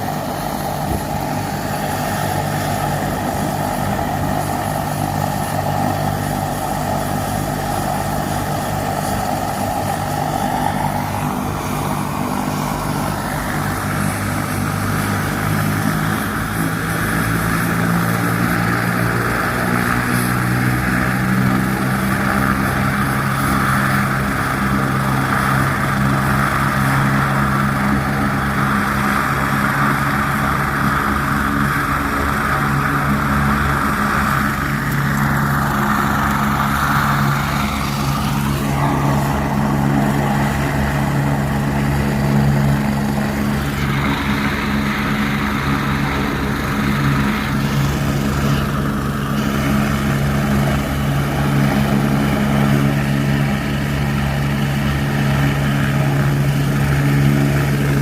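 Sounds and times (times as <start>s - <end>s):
helicopter rotor and engine drone: 0.0s - 58.0s
turbine whine: 0.0s - 58.0s.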